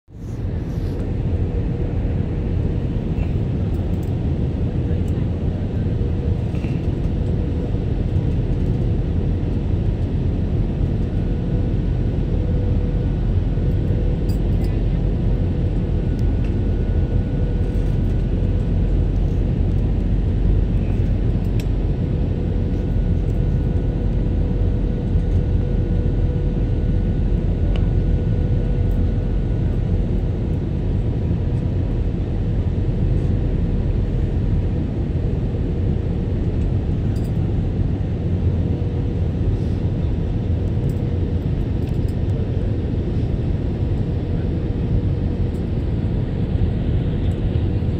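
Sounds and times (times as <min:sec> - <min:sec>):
jet engine rumble in cabin: 0:00.1 - 0:47.9.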